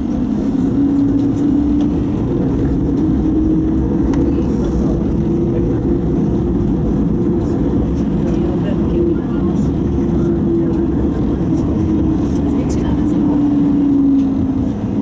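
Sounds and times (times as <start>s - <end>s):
tram motor hum rising: 0.0s - 15.0s
tram wheels rumbling on rails: 0.0s - 15.0s.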